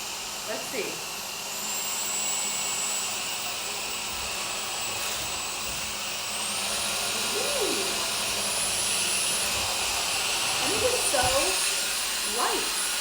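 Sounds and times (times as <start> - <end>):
vacuum cleaner motor whining: 0.0 - 13.0.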